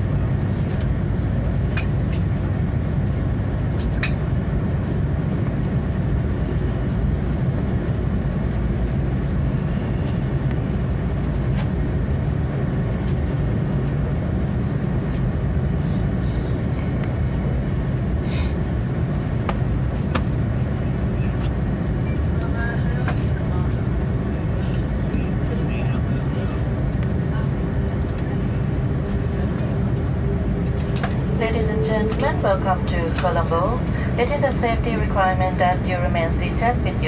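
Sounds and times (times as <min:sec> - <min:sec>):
airplane cabin low rumble: 0:00.0 - 0:37.0.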